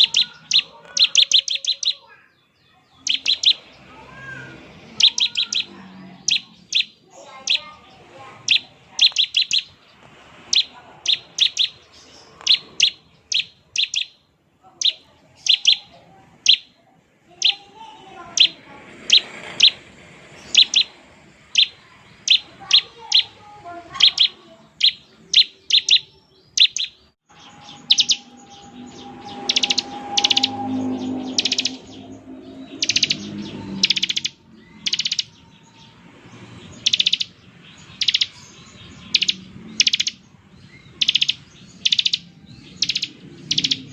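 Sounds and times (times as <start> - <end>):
bird singing high sharp notes: 0.0 - 9.8, 10.5 - 19.8, 20.4 - 43.9.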